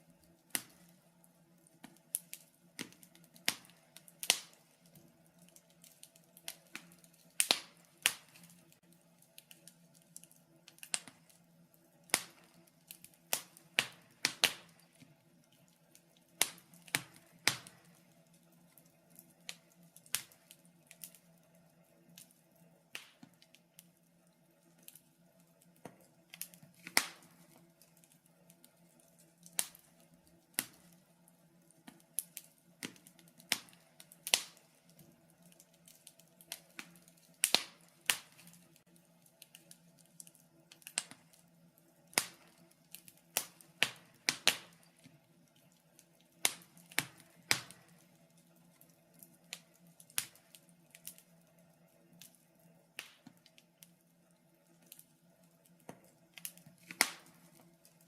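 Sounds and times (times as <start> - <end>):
faint steady low hum: 0.0 - 58.0
wood fire crackling: 0.0 - 58.0.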